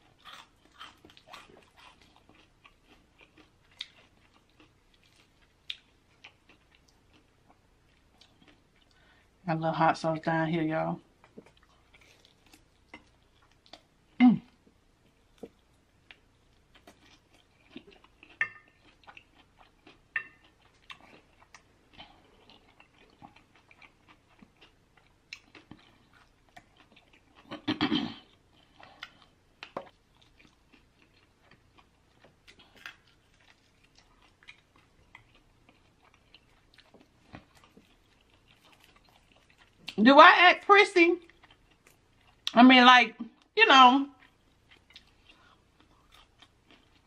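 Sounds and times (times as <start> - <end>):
chewing crispy chicken wings: 0.0 - 9.2, 11.2 - 40.0, 41.0 - 42.6, 43.2 - 47.0.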